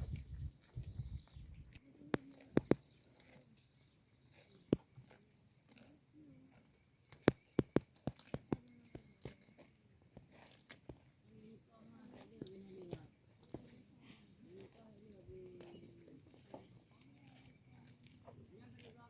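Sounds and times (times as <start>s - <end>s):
cows tearing grass: 1.6s - 19.0s.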